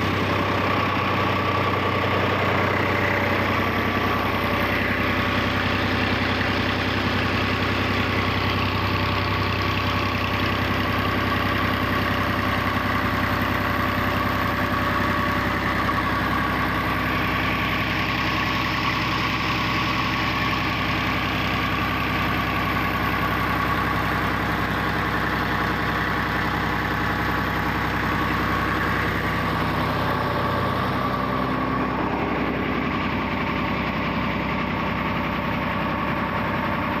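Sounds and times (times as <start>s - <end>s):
tractor diesel engine idling: 0.0s - 37.0s.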